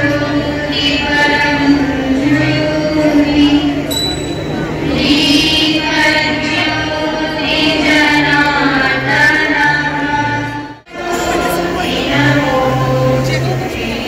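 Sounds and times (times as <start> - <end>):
music with singing voice: 0.0 - 14.0.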